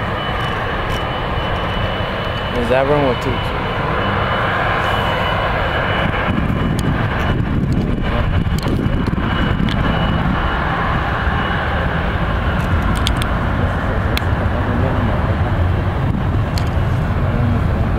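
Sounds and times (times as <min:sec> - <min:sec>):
jet airliner engines rumbling: 0:00.0 - 0:17.9.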